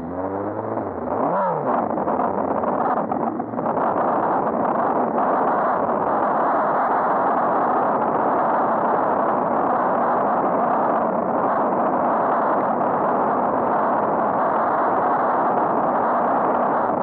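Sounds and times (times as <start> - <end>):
road noise while cycling: 0.0 - 17.0
wind rushing on microphone: 0.0 - 17.0.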